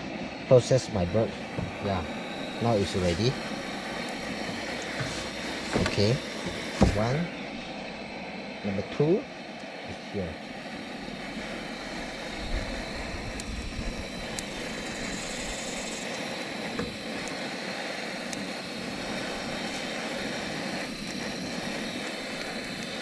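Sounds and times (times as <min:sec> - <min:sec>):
gas torch flame hissing: 0:00.0 - 0:23.0.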